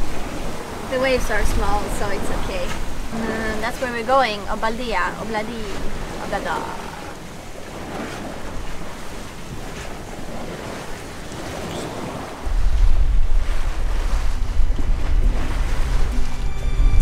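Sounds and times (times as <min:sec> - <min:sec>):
sea waves washing around boat: 0:00.0 - 0:17.0
wind: 0:00.0 - 0:17.0
wind buffeting on microphone: 0:00.0 - 0:17.0.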